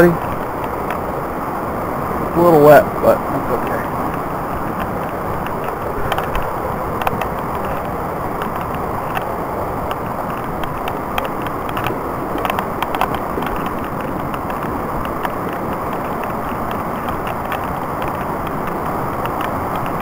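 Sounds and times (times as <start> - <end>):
fast water rushing: 0.0 - 20.0.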